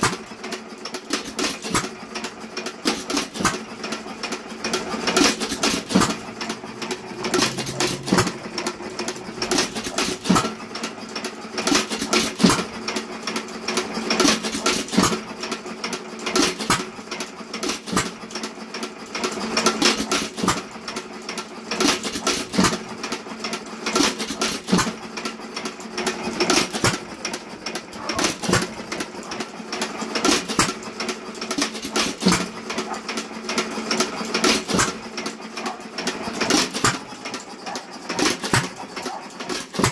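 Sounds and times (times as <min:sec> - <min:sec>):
hit-and-miss engine firing: 0:00.0 - 0:00.4, 0:01.0 - 0:15.6, 0:16.2 - 0:18.4, 0:19.1 - 0:21.0, 0:21.7 - 0:39.9
valve gear clatter: 0:00.0 - 0:39.9.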